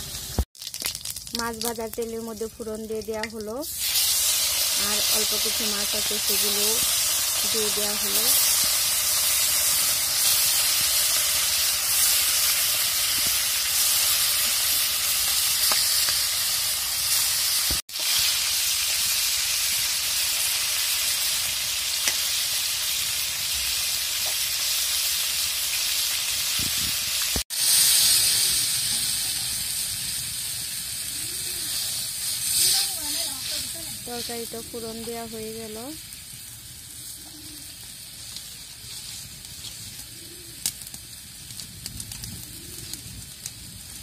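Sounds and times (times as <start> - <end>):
fish frying in hot oil: 0.0 - 44.0
curry simmering hiss: 1.3 - 44.0.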